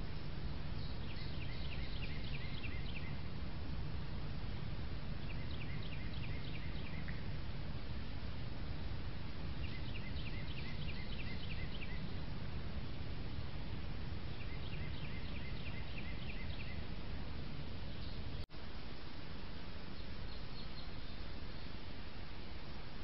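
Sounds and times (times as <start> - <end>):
songbird singing: 0.0 - 18.5, 19.4 - 23.0
steady hiss with low rumble: 0.0 - 23.0.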